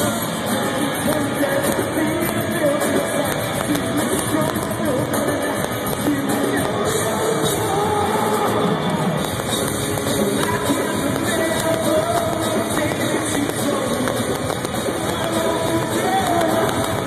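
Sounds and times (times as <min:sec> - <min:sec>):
drums: 0:00.0 - 0:17.0
electric guitars: 0:00.0 - 0:17.0
person singing into microphone: 0:00.0 - 0:17.0.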